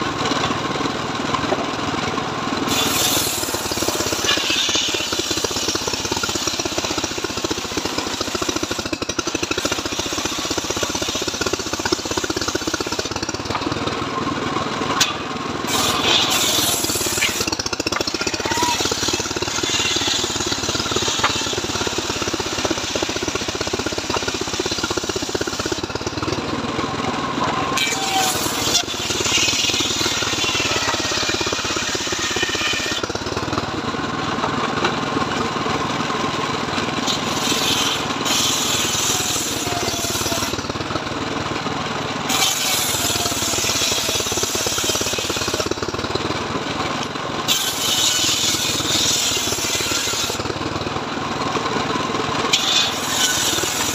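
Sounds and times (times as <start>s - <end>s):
circular saw cutting wood: 2.6s - 46.2s, 46.8s - 50.6s, 51.6s - 53.9s.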